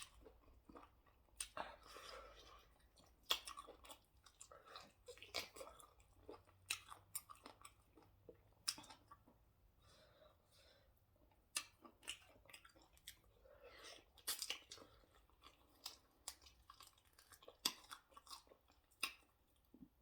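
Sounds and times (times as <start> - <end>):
wet mouth chewing: 0.0 - 9.3, 11.5 - 19.4.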